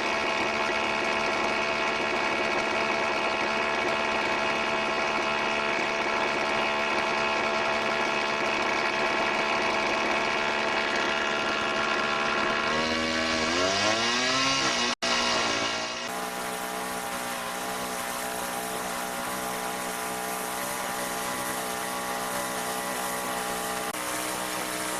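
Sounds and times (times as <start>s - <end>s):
chainsaw running: 0.0s - 24.9s.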